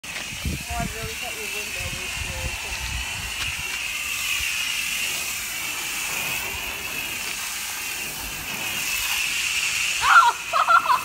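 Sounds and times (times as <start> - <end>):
hose water jet hissing: 0.0 - 11.0.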